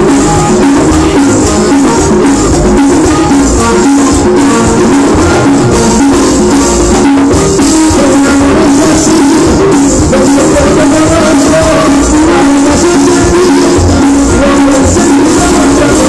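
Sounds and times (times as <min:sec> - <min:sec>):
congas and timbales beat: 0:00.0 - 0:16.0
held keyboard notes: 0:00.0 - 0:16.0.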